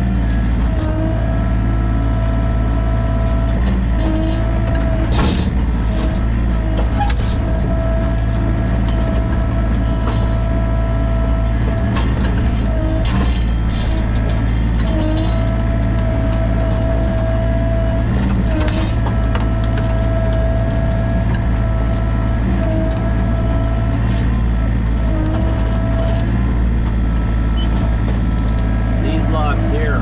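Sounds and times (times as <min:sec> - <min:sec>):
diesel engine running: 0:00.0 - 0:30.0
hydraulic whine: 0:00.0 - 0:30.0.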